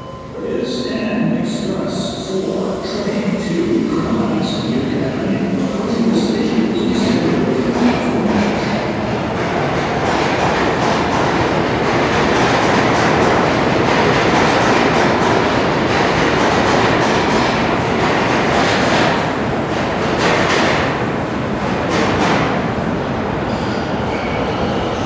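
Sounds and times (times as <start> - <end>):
subway train wheels rumbling: 0.0 - 25.0.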